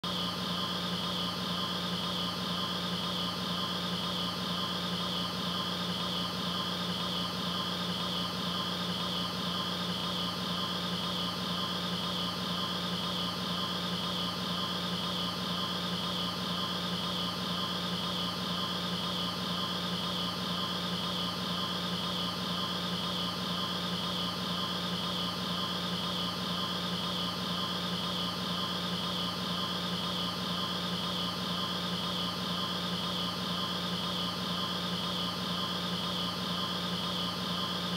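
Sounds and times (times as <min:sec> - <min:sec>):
machine hum and hiss: 0:00.0 - 0:37.9.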